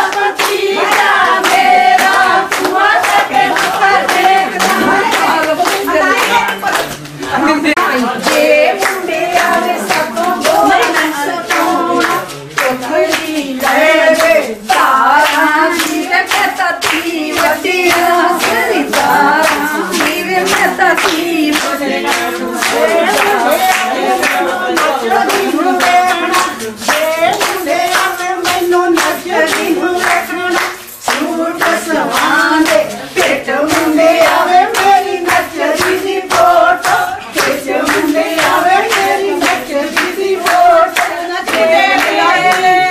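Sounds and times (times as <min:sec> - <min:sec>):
hand-clapping beat: 0:00.0 - 0:42.9
women singing as a group: 0:00.0 - 0:42.9.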